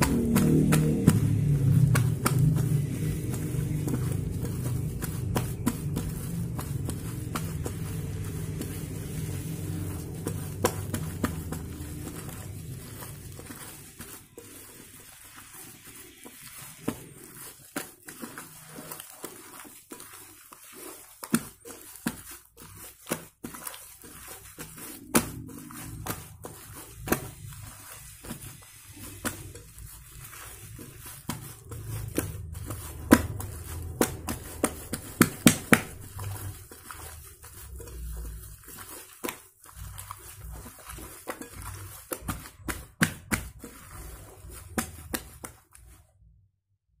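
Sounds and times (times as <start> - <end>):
slime squelching and popping: 0.0 - 46.1.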